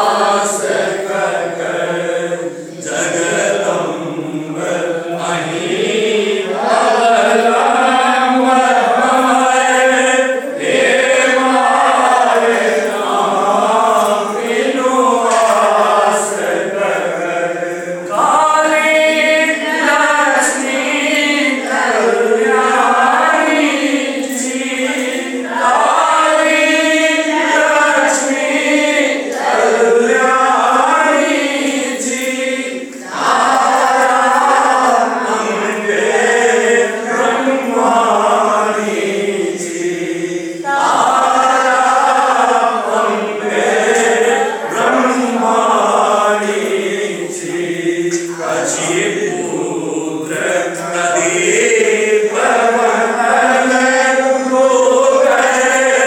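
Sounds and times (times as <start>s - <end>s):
group singing devotional song: 0.0s - 56.0s.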